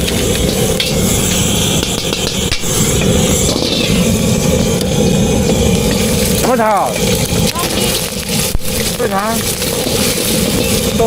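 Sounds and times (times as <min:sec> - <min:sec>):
engine-like rumble: 0:00.0 - 0:11.0
hiss: 0:00.0 - 0:11.0.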